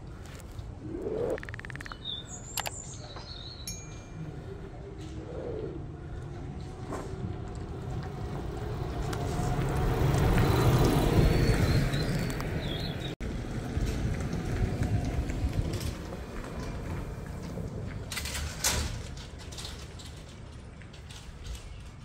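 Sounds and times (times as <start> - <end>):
trolleybus passing: 3.8 - 22.0.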